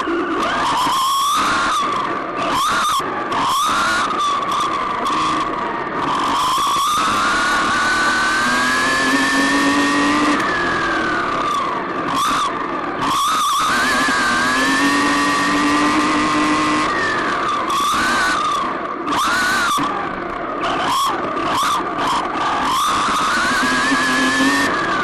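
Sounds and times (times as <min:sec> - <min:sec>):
rc car motor whining: 0:00.0 - 0:25.0.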